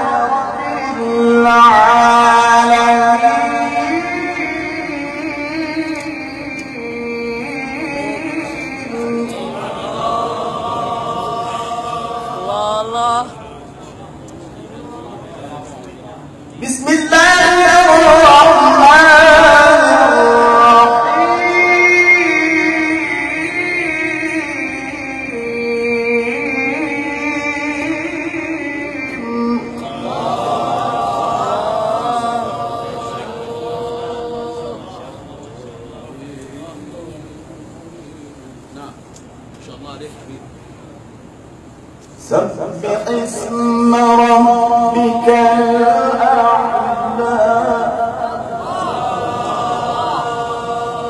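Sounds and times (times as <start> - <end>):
man reciting melodically into microphone: 0.0 - 13.4, 16.6 - 38.1, 42.2 - 48.5.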